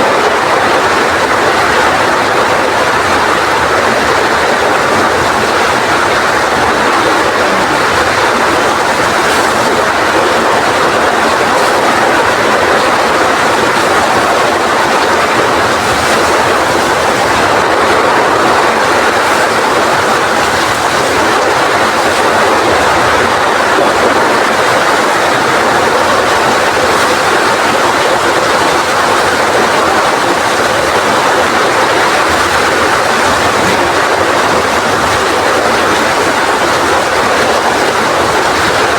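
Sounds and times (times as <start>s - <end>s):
heavy rain pouring: 0.0s - 38.9s
strong wind: 0.0s - 38.9s.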